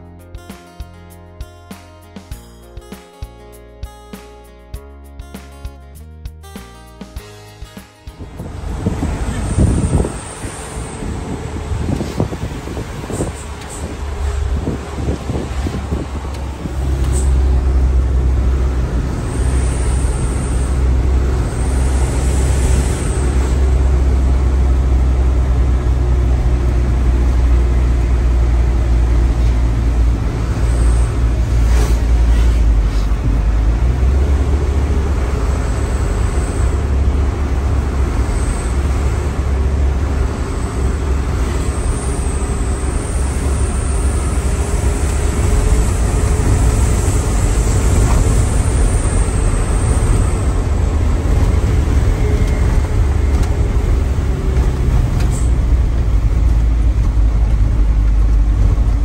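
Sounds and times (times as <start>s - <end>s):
road noise: 5.2s - 59.0s
truck engine droning: 7.2s - 59.0s.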